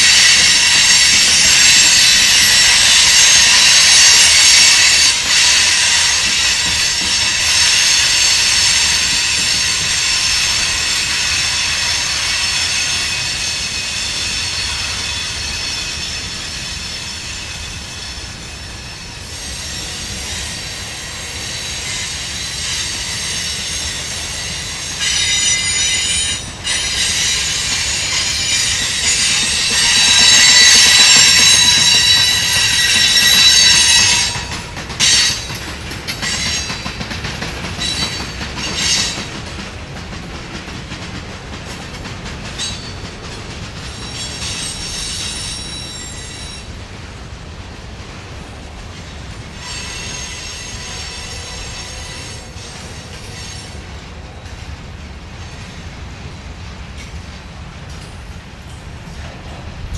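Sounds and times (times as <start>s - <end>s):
train wheels squealing: 0.0s - 39.5s, 42.3s - 46.9s, 48.6s - 56.3s
freight train rumbling: 0.0s - 59.9s
train cars knocking: 0.0s - 59.9s.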